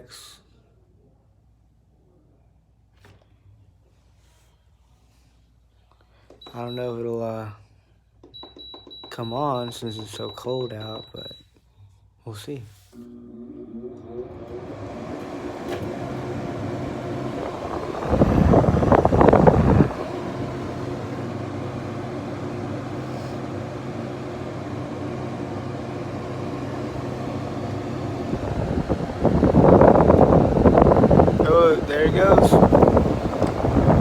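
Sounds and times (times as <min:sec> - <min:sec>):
air conditioner motor hum: 0:00.0 - 0:34.0.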